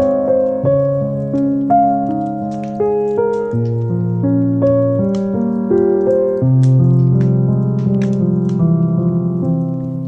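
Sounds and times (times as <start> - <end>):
fireplace crackling: 0.0 - 10.0
slow solo piano piece: 0.0 - 10.0.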